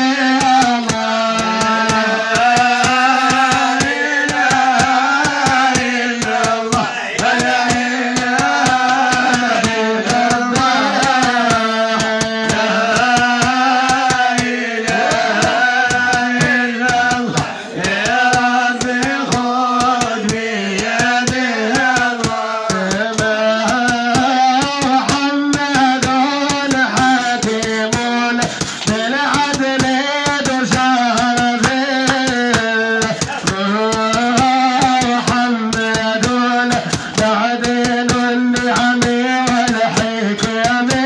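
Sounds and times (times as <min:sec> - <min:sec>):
man singing into a microphone: 0:00.0 - 0:41.0
sharp percussive taps: 0:00.0 - 0:41.0.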